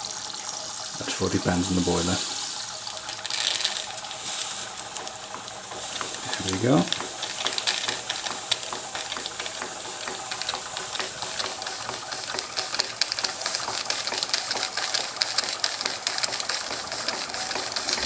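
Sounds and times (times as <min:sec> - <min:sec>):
steam engine ticking clatter: 0:00.0 - 0:18.0
steam hiss: 0:00.0 - 0:18.0.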